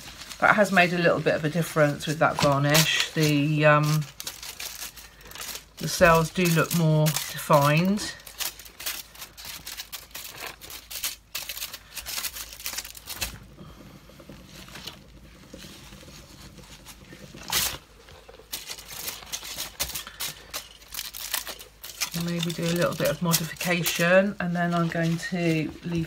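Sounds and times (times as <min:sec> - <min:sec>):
foil and plastic gloves crinkling: 0:00.0 - 0:26.0.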